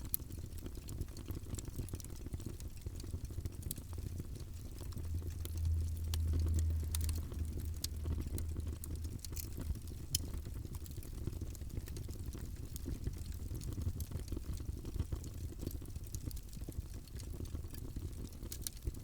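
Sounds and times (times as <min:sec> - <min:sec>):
fire pops and snaps: 0:00.0 - 0:19.0
low rumble of flames: 0:00.0 - 0:19.0.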